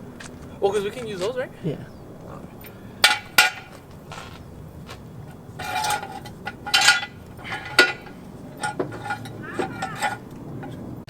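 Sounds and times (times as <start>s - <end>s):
steel parts clanking: 0.0s - 11.0s.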